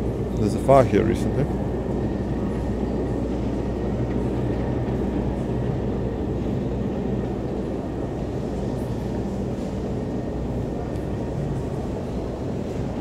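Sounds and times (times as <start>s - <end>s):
low mechanical hum and rumble: 0.0s - 13.0s.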